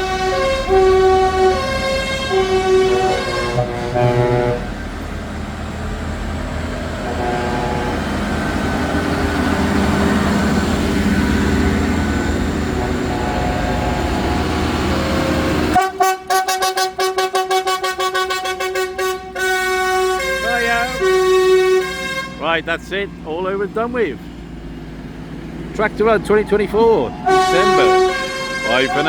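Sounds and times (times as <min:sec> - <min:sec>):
horns sounding: 0:00.0 - 0:05.1, 0:06.9 - 0:29.0
tractor engines running: 0:00.0 - 0:29.0.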